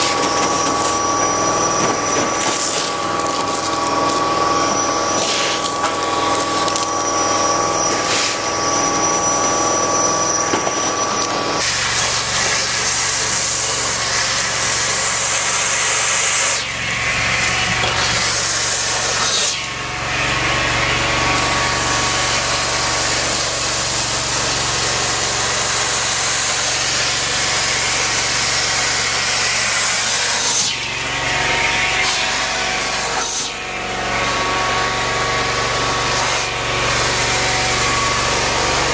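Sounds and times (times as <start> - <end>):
vacuum machine whine: 0.0 - 38.9.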